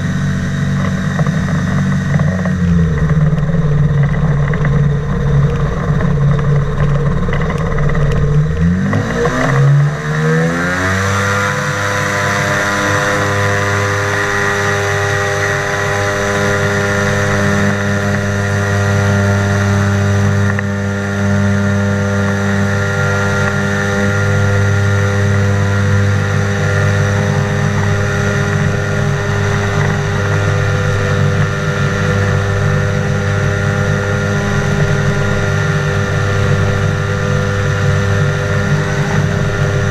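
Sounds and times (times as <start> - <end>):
propeller engine revving: 0.0 - 39.9.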